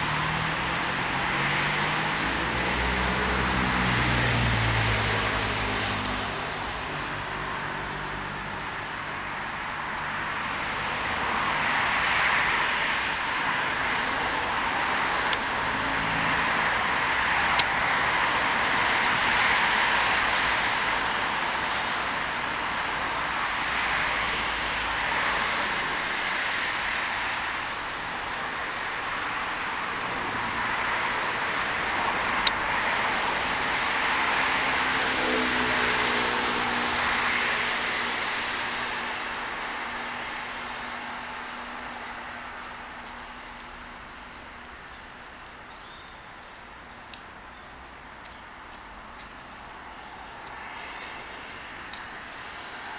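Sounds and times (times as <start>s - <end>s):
small stream rushing: 0.0s - 52.9s.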